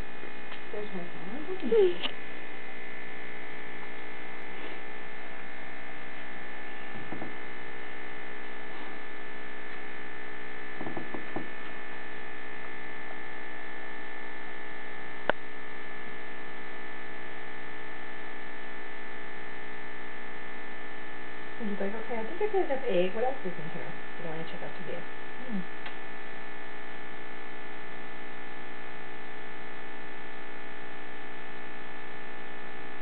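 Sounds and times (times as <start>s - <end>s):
electrical hum with buzzing: 0.0s - 33.0s.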